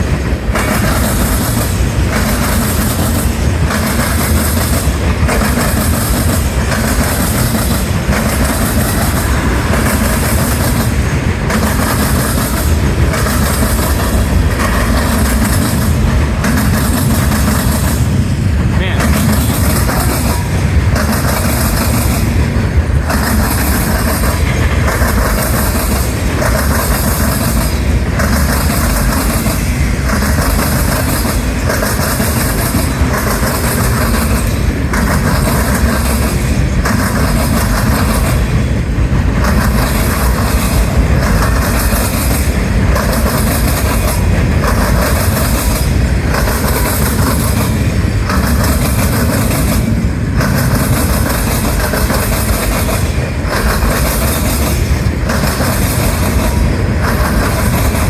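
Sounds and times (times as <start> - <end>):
freight train rumbling past: 0.0 - 58.0
train wheels clattering: 0.0 - 58.0.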